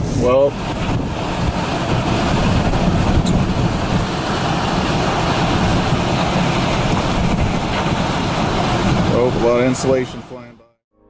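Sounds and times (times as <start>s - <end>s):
strong storm wind blowing: 0.0s - 10.5s.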